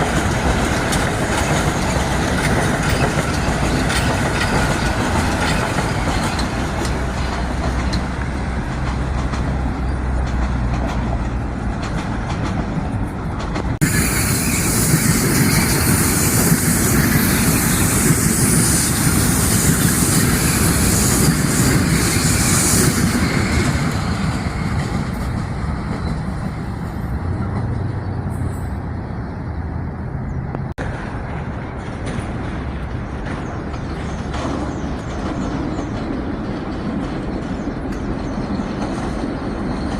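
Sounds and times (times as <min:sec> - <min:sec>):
train wheels rumbling on tracks: 0:00.0 - 0:39.9.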